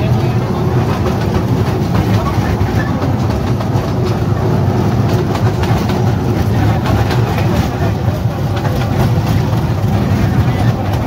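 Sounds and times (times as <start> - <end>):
train engine rumble: 0.0 - 11.0.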